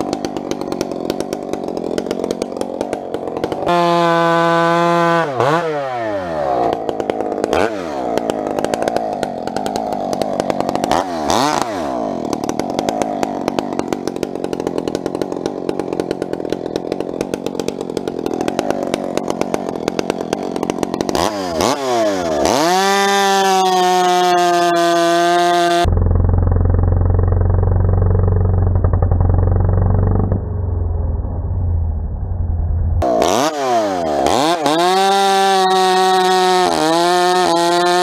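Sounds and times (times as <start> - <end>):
chainsaw cutting wood: 0.0 - 30.5, 33.0 - 38.0.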